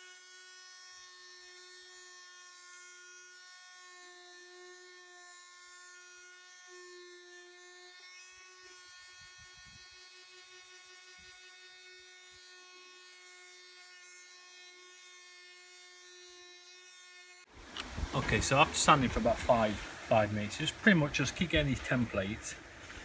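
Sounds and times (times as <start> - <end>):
orbital sander whining: 1.0 - 22.4.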